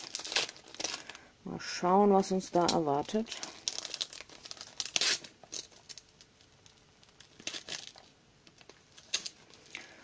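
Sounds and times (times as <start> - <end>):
wrapping paper crinkling: 0.0 - 1.2, 2.2 - 10.0.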